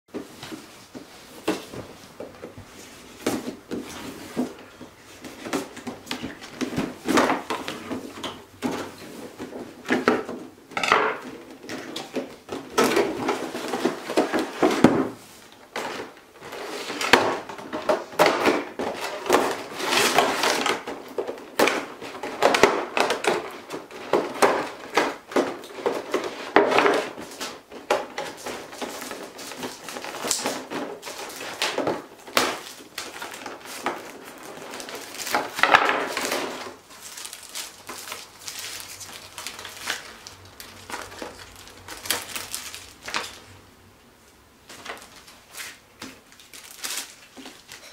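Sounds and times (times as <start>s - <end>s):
plastic tray rustling: 0.1s - 43.6s, 44.6s - 47.9s.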